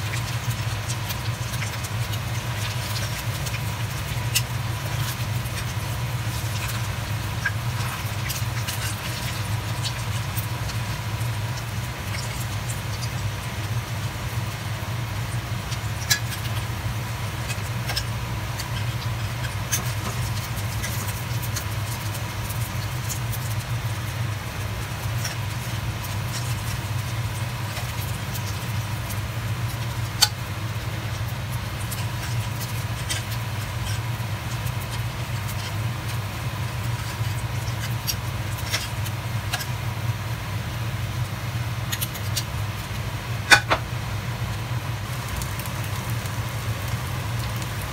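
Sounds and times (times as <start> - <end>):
food frying in oil: 0.0 - 47.9.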